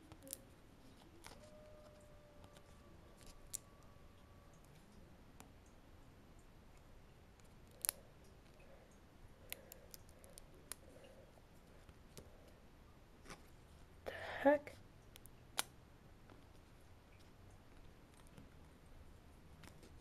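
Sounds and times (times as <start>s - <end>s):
faint steady tone: 0.0s - 20.0s.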